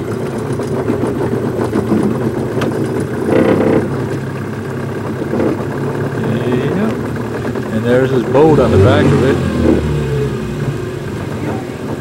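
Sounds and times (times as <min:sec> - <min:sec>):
engine running at low speed: 0:00.0 - 0:12.0.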